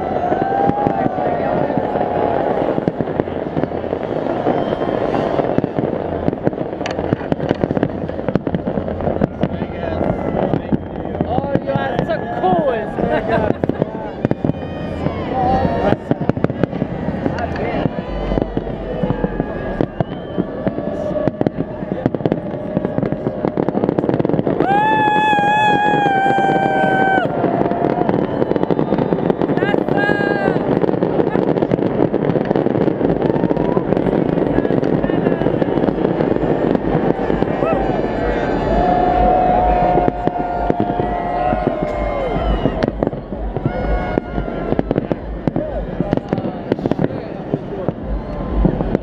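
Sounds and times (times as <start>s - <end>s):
crowd holding long high note: 0.0s - 49.0s
fireworks bangs and crackles: 0.0s - 49.0s.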